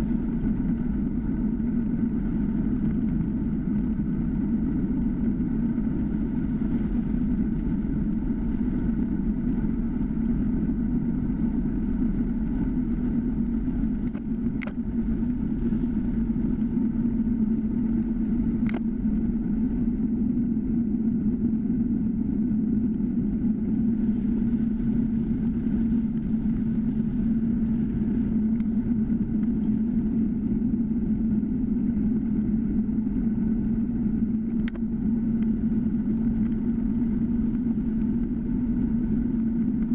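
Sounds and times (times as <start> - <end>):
low hum: 0.0 - 39.9
wind and road rumble: 0.0 - 39.9.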